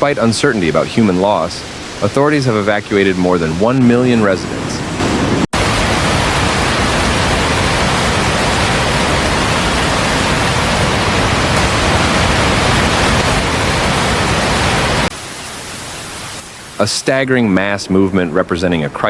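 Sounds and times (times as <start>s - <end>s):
water rushing: 0.0s - 18.8s.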